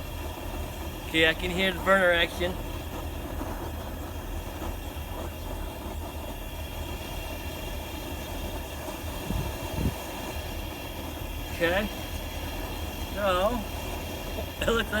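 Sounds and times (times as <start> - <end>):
gas burner rumbling and hissing: 0.0 - 15.0.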